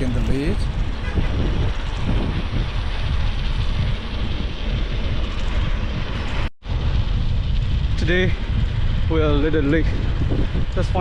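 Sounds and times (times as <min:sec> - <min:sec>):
bicycle tyre rumble: 0:00.0 - 0:11.0
wind buffeting microphone: 0:00.0 - 0:11.0.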